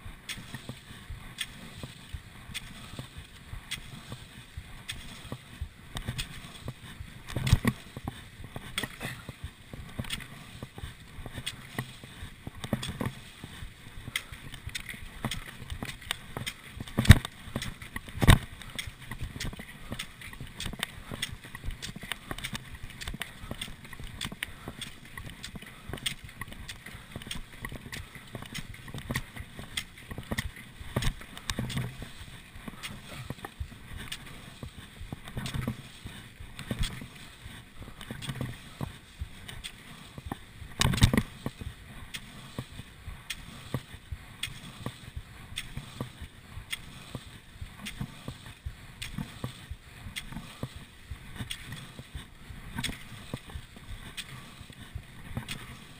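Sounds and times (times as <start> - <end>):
ski poles clicking in snow: 0.0 - 55.9
skis gliding and scraping on snow: 0.0 - 55.9.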